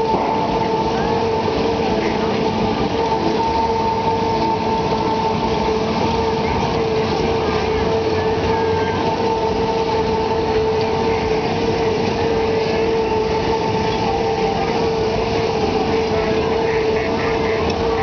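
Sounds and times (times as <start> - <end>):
ride machinery droning: 0.0 - 18.0
rush of swinging cars: 0.0 - 18.0.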